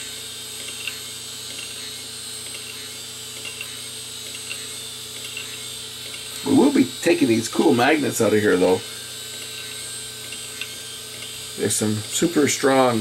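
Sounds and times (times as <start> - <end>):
hard drive humming and whining: 0.0 - 13.0.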